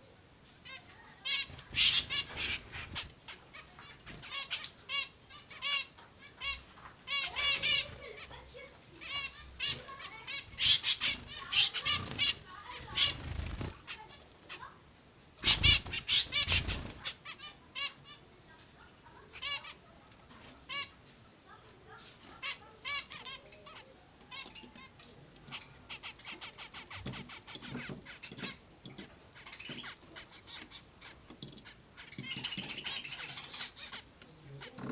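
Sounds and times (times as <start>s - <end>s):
finches calling: 0.7s - 14.7s, 15.4s - 18.3s, 22.0s - 34.9s.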